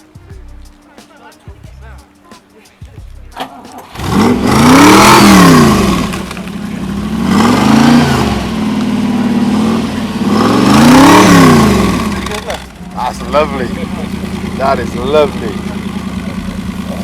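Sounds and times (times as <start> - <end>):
car engine revving: 3.1 - 17.0.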